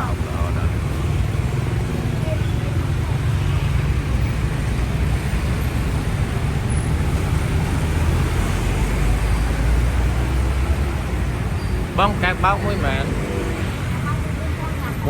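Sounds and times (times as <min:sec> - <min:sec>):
motorcycle engine: 0:00.0 - 0:15.0
tyre road noise: 0:00.0 - 0:15.0.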